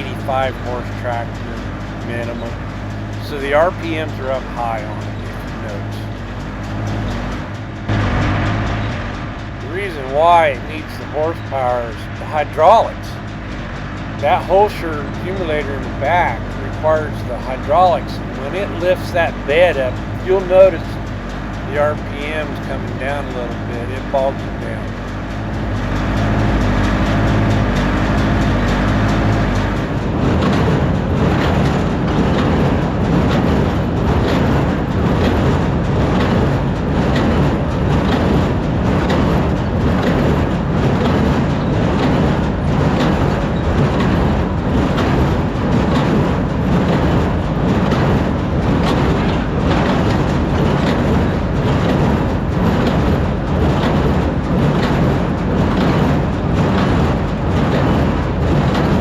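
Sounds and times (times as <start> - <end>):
tractor engine at high revs: 0.0 - 59.0.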